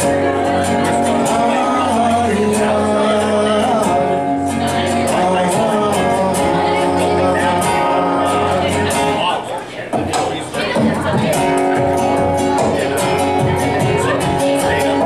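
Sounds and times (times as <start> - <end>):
man singing: 0.0 - 9.4, 10.6 - 15.0
acoustic guitars playing: 0.0 - 15.0.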